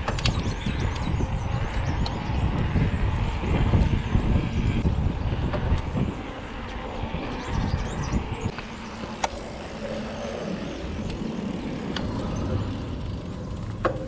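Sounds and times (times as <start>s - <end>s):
bike road noise rumble: 0.0s - 14.0s
wind buffeting: 0.0s - 14.0s.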